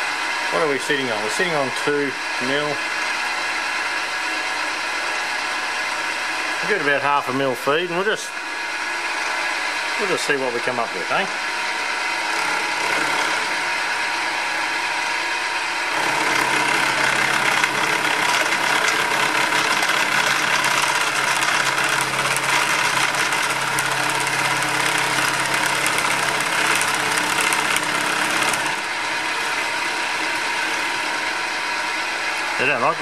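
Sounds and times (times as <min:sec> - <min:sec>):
mill cutting steel: 0:00.0 - 0:33.0
milling machine hum: 0:00.0 - 0:33.0.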